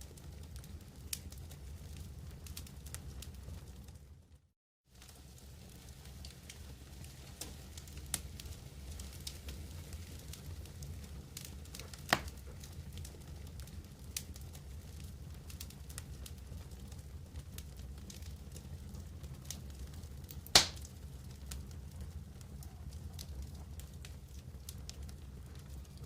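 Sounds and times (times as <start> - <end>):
campfire flames rushing: 0.0 - 4.2, 4.9 - 26.0
fire crackling and popping: 0.0 - 26.0.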